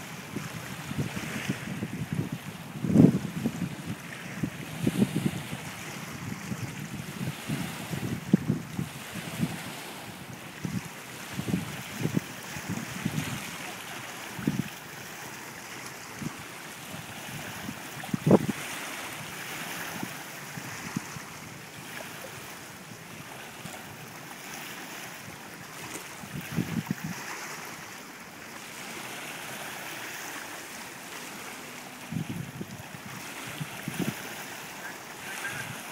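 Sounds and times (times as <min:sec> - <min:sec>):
wind buffeting microphone: 0:00.0 - 0:15.3, 0:15.9 - 0:27.8, 0:31.2 - 0:35.9
waves lapping on stones: 0:00.0 - 0:35.9.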